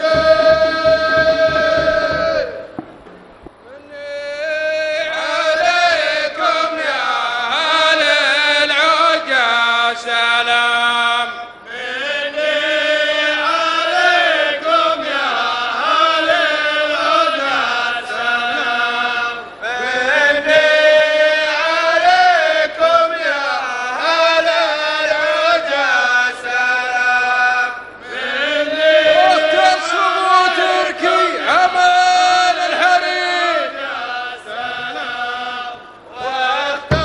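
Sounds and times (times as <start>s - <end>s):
men's chorus chanting in unison: 3.8s - 37.0s.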